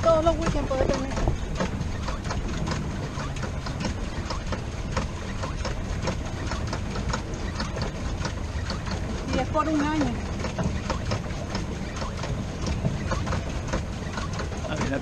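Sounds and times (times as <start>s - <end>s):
pedal boat churning water: 0.0s - 15.0s.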